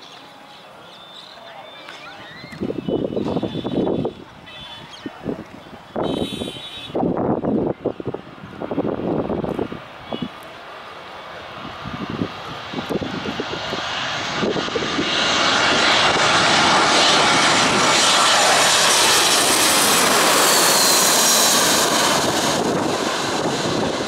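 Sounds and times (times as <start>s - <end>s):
jet airliner engines overhead: 0.0s - 24.0s.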